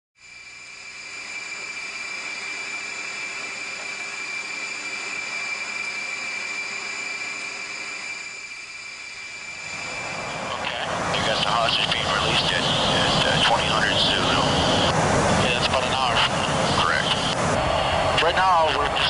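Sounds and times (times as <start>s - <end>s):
jet engines whining: 0.2s - 19.0s.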